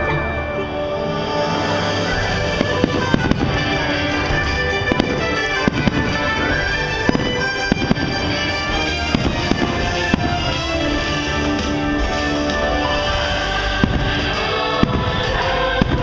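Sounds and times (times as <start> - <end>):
music playing: 0.0 - 16.0
fireworks bursting: 1.1 - 16.0.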